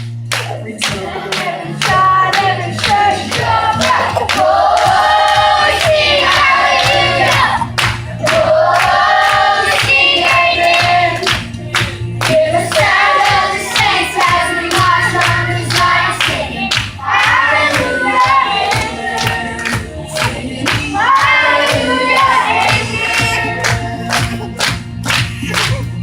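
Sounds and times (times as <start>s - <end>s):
instrumental accompaniment with beat: 0.0s - 26.0s
children's choir singing: 0.4s - 24.6s.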